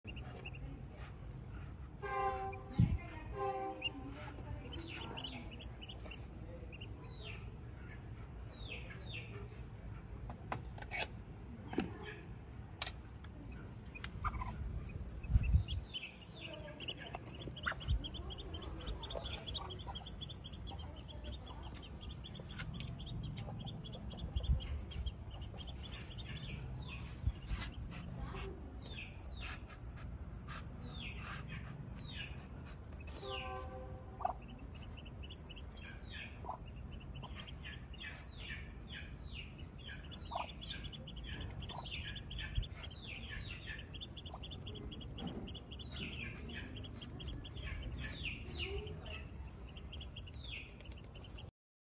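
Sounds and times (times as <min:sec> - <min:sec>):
duckling peeping: 0:00.0 - 0:51.5.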